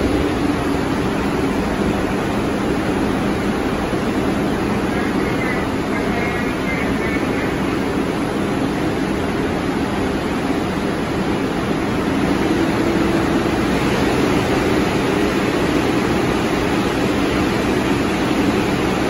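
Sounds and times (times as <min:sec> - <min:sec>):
subway train idling: 0:00.0 - 0:19.0.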